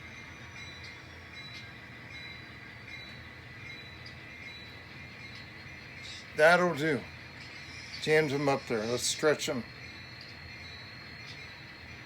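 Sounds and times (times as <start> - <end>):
model train running: 0.0 - 12.0
thin high tone: 0.0 - 12.0.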